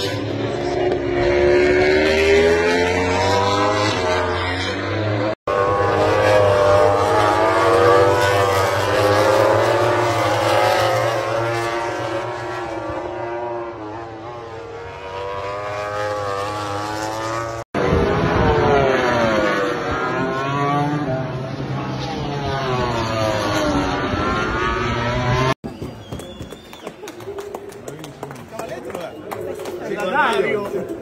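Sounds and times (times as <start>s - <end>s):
racing motorcycle engines: 0.0s - 31.0s.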